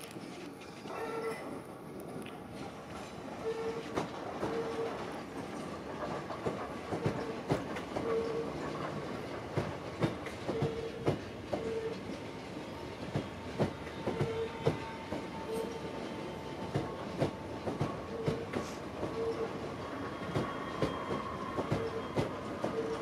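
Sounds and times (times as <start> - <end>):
train rumble: 0.0 - 23.0
train wheels clicking over rail joints: 1.5 - 23.0.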